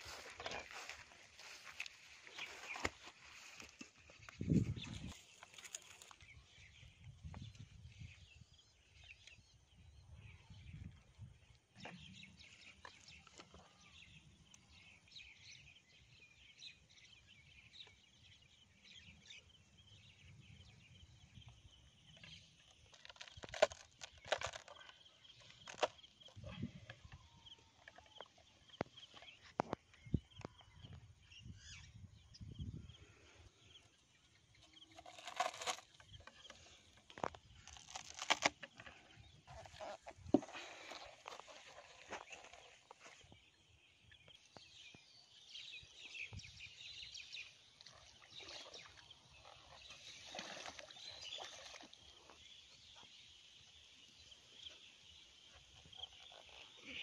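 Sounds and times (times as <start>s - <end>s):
small birds calling: 0.0s - 20.4s, 21.3s - 57.0s.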